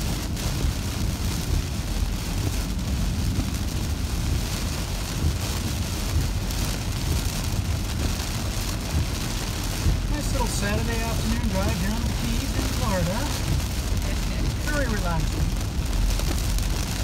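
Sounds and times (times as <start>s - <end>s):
heavy rain on a car: 0.0s - 17.0s
tyres rumbling on wet road: 0.0s - 17.0s.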